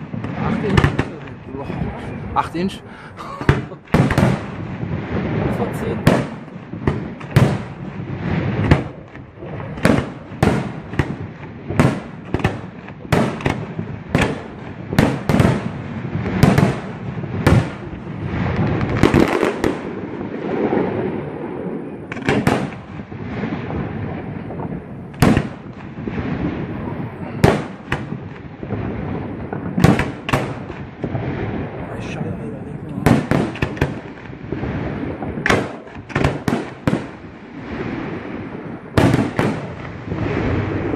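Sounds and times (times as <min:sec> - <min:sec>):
fireworks banging: 0:00.0 - 0:40.9
fireworks rumbling and crackling: 0:00.0 - 0:40.9.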